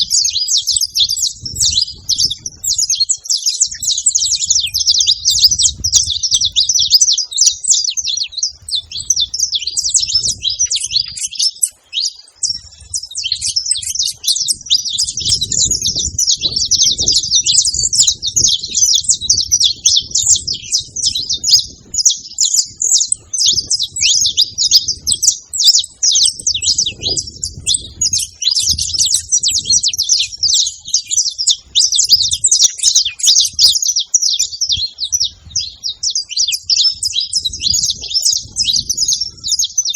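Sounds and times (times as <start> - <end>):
finch chirping song: 0.0 - 39.9.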